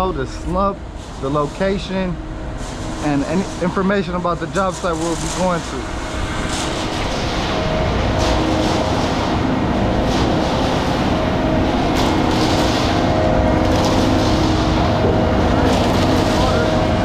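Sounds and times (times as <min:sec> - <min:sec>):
concrete mixer truck running: 0:00.0 - 0:17.0
faint humming tones: 0:00.0 - 0:17.0.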